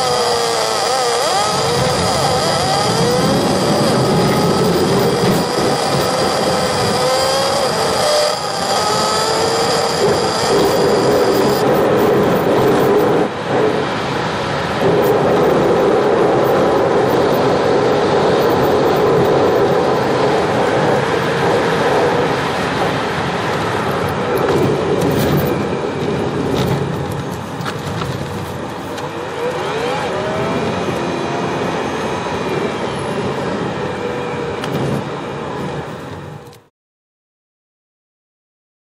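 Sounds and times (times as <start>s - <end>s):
tyre noise on icy pavement: 0.0s - 36.6s
vehicle road and engine noise: 0.0s - 36.7s.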